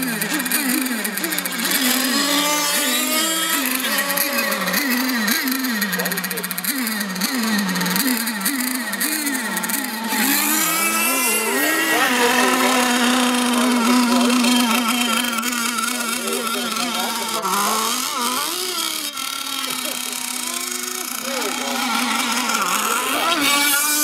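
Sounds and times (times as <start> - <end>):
model boat engines revving: 0.0 - 24.0.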